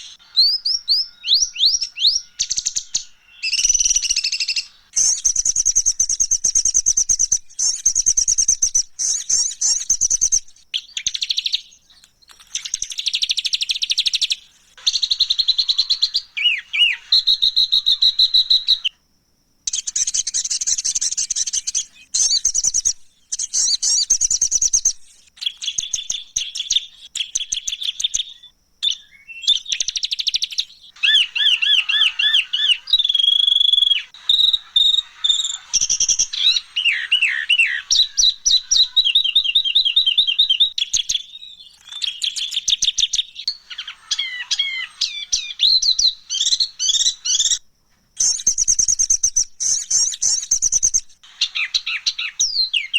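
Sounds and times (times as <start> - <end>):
songbird buzzy trills and rattles: 0.0 - 18.9, 19.6 - 47.6, 48.2 - 52.9
songbird whistled notes: 0.0 - 19.0, 19.7 - 47.6, 48.2 - 52.9.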